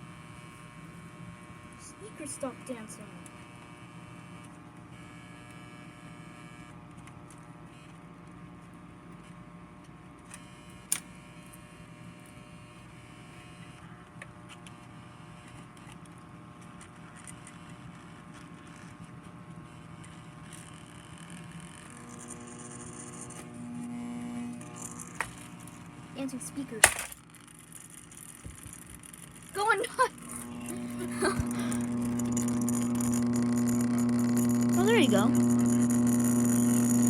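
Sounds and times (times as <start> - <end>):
electrical hum and buzz: 0.0 - 37.0.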